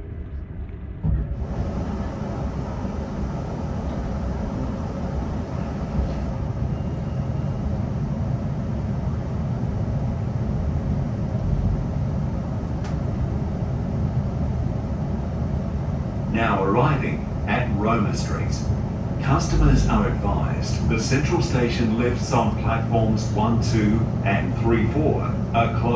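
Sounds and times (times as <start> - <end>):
train wheels rumbling on track: 1.0 - 25.9.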